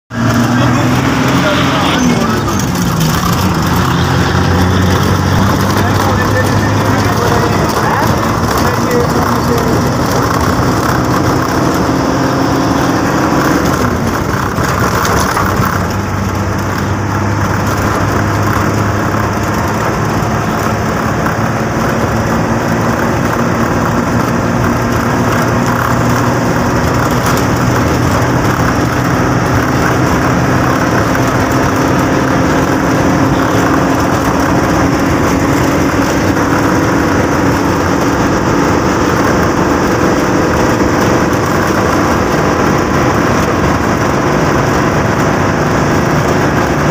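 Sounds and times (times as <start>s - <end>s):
bus engine running: 0.1s - 46.9s
road noise: 0.1s - 46.9s.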